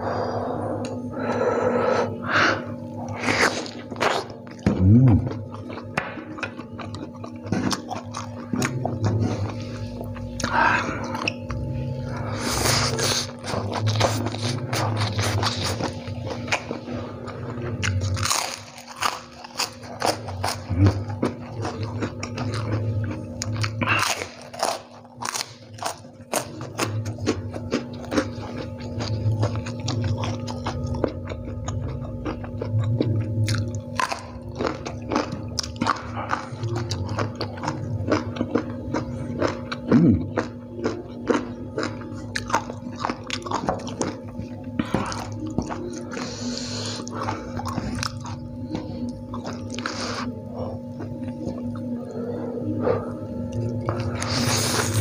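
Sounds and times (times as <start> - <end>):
crunching and chewing crackers: 3.0 - 55.0.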